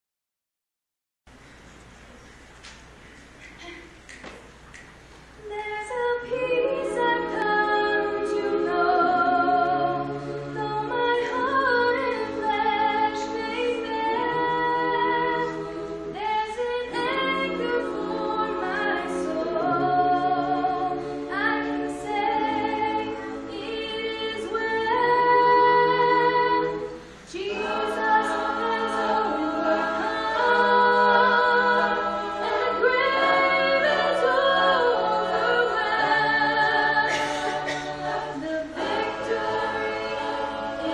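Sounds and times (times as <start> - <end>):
a cappella group singing: 5.4 - 40.9.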